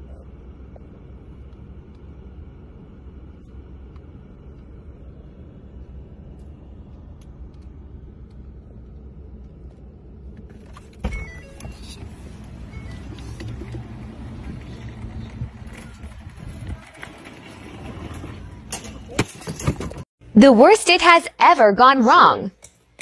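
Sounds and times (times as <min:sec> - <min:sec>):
car cabin rumble: 0:00.0 - 0:19.2.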